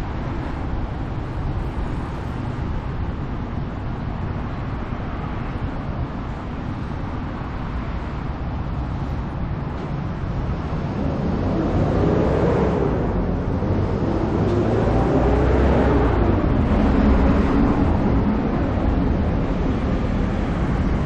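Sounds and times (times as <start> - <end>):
street traffic rumble: 0.0 - 21.0
vehicle approaching with wavering hum: 0.0 - 21.0.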